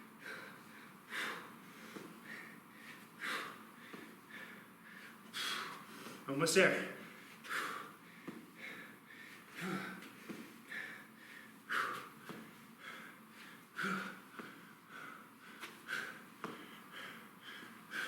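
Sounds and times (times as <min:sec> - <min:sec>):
man breathing hard: 0:00.0 - 0:06.3, 0:06.9 - 0:18.0.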